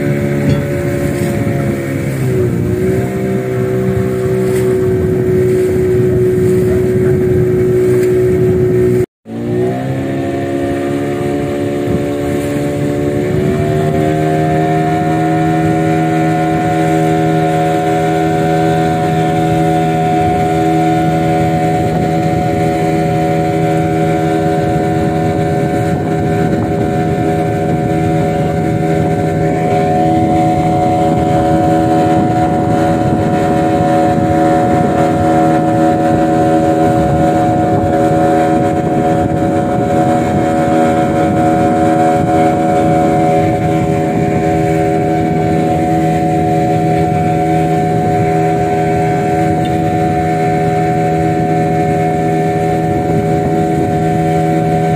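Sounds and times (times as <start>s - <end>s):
motorboat engine drone: 0.0s - 54.9s.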